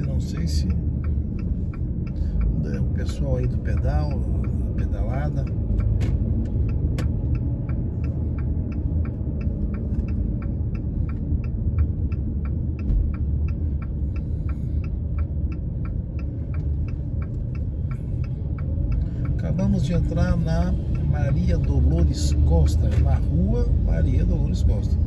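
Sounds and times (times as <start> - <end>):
car engine and tyres rumble: 0.0 - 25.0
car turn signal clicking: 0.0 - 25.0.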